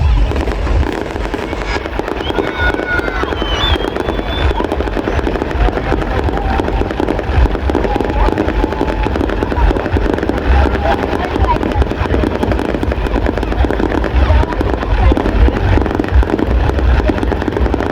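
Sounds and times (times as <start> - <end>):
fireworks crackling: 0.0 - 17.9
high whistling fireworks: 0.0 - 17.9.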